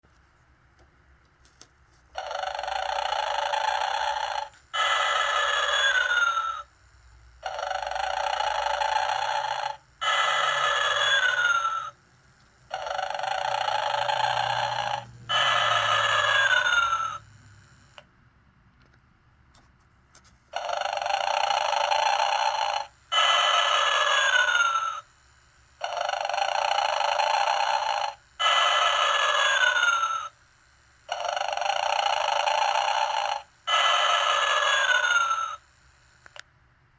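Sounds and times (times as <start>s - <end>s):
toy snoring and whistling: 2.2s - 12.0s, 12.6s - 17.9s, 20.5s - 25.2s, 25.8s - 30.4s, 31.0s - 36.4s.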